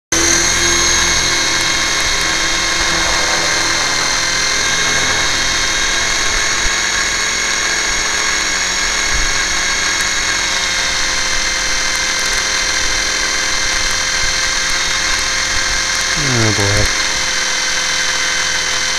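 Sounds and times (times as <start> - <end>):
electric motors and propellers whining: 0.2 - 18.8.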